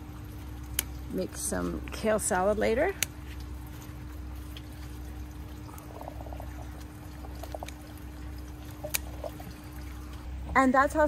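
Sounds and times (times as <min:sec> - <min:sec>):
faint hum: 0:00.0 - 0:11.0
water trickling and splashing: 0:00.0 - 0:11.0.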